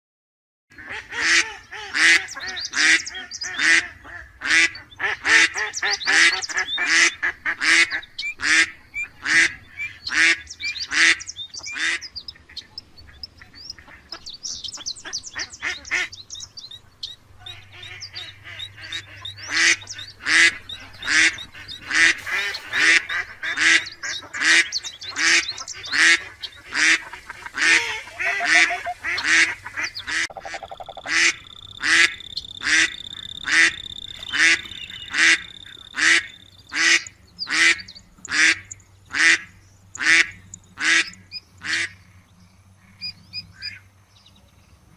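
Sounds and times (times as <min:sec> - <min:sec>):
ducks quacking: 0:00.7 - 0:43.8.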